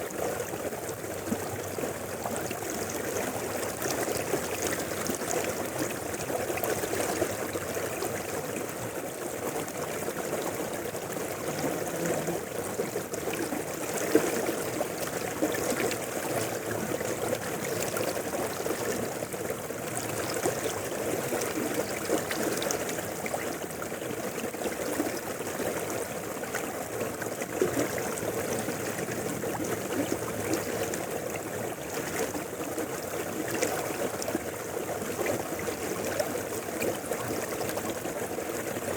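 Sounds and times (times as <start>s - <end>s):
mountain river flowing: 0.0s - 38.9s.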